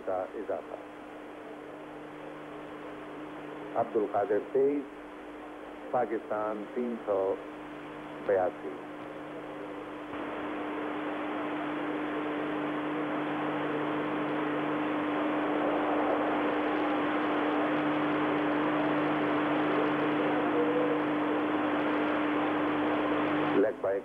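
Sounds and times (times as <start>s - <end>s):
low hum: 0.6s - 23.8s.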